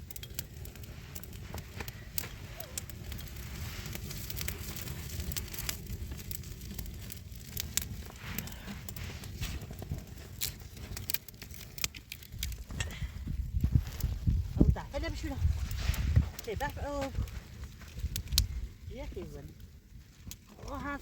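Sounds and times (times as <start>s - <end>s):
sharp crackles and clicks: 0.0s - 21.0s
wind rumble: 0.0s - 21.0s.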